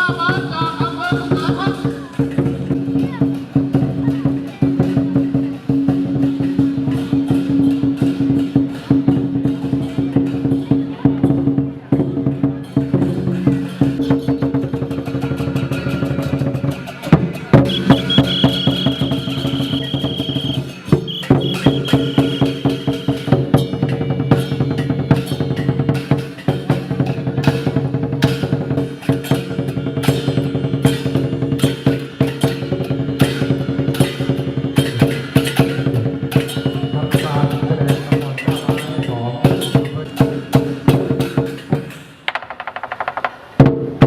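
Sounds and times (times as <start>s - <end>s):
rapid drum strikes: 0.0s - 44.0s.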